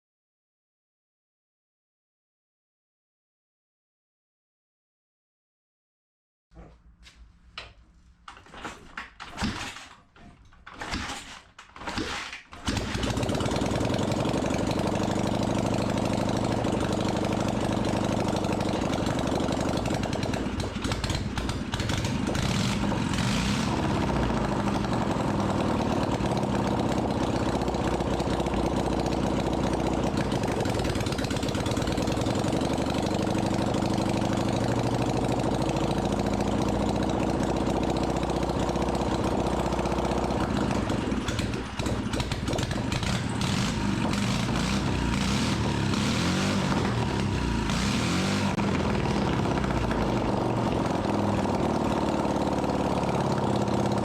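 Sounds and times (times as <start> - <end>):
motorcycle engine starting and running: 7.6 - 54.0.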